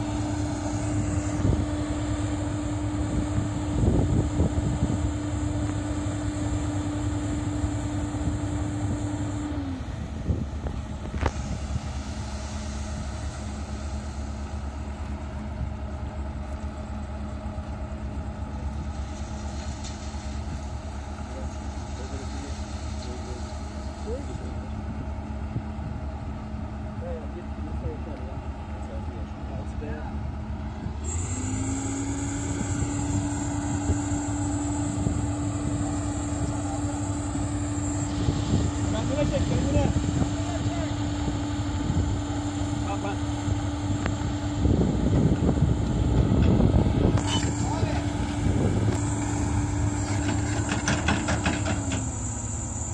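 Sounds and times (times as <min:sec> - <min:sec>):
high thin whine: 0:00.0 - 0:24.9, 0:29.2 - 0:52.9
excavator diesel engine running: 0:00.0 - 0:52.9.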